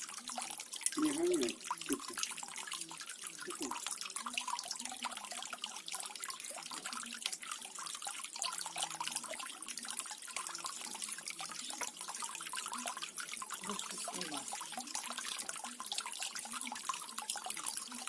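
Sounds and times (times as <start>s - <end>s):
small bubbling drips: 0.0s - 18.0s.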